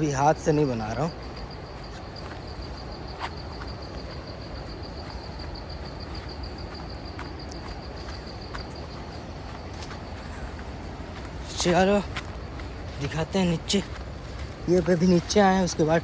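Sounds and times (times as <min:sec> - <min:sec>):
cricket trilling: 0:00.0 - 0:16.0
outdoor rush with low rumble: 0:00.0 - 0:16.0.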